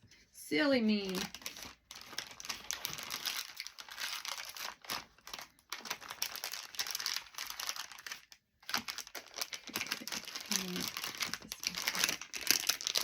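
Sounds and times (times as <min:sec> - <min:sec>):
plastic packaging crinkling: 0:00.9 - 0:13.0.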